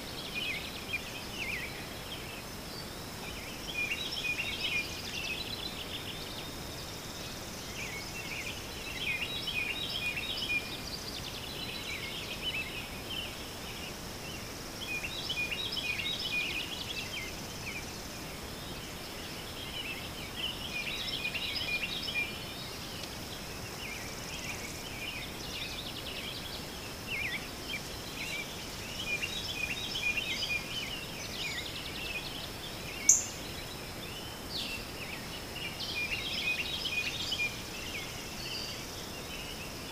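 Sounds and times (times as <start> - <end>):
birds chirping: 0.0 - 39.9
insect drone: 0.0 - 39.9.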